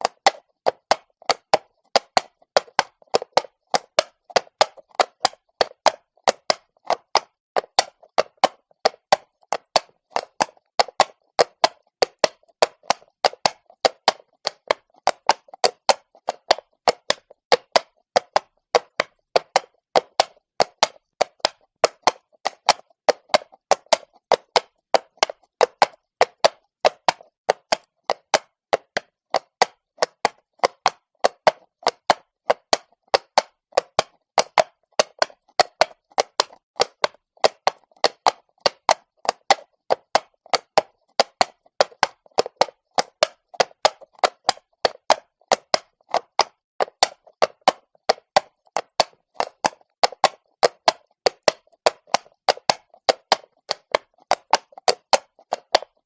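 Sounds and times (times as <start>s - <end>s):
horse hooves clopping on stone: 0.0s - 56.0s.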